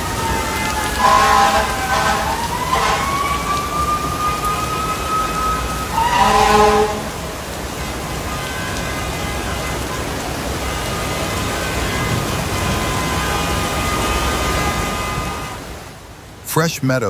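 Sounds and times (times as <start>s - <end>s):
faint traffic hum: 0.0s - 17.0s
heavy rain pouring: 0.0s - 17.0s.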